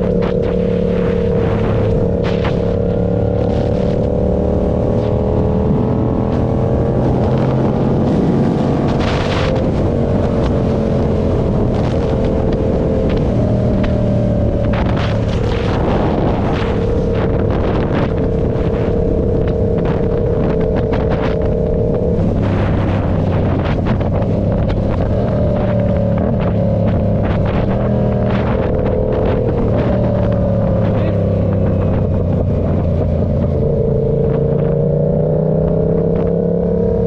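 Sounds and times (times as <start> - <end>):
motorcycle engine revving: 0.0 - 37.0
wind buffeting microphone: 0.0 - 37.0.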